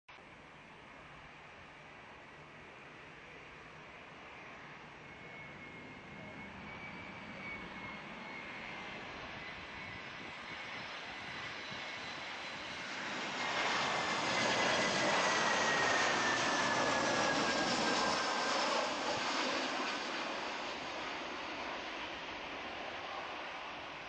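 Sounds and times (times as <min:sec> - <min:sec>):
jet engine noise: 0:01.0 - 0:24.0.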